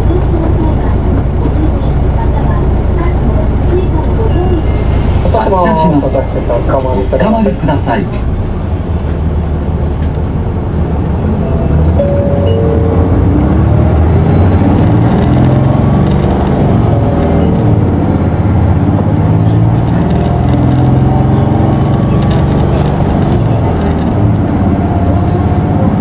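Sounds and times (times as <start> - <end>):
bus diesel engine accelerating: 0.0 - 26.0.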